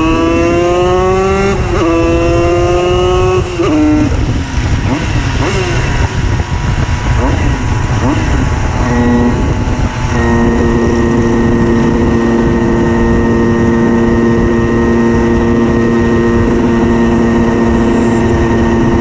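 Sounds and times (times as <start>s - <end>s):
moped engine buzzing: 0.0s - 19.0s.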